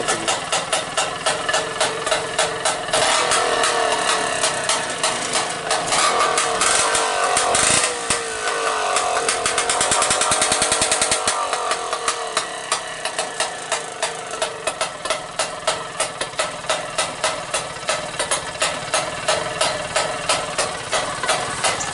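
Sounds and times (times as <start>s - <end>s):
scooter engine popping and revving: 0.0s - 21.9s.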